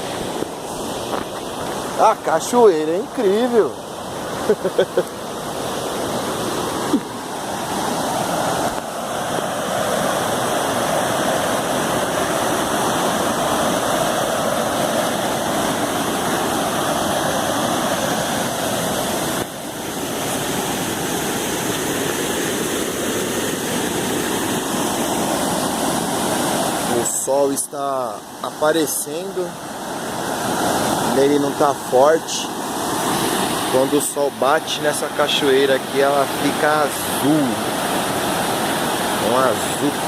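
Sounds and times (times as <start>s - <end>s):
waterfall rushing into pool: 0.0s - 40.0s.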